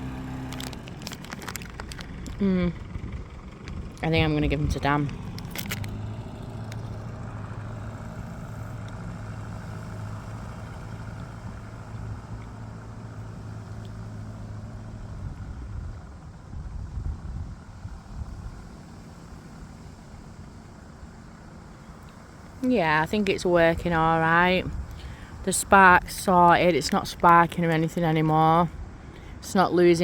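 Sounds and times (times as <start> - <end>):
engine running with low hum: 0.0 - 30.0.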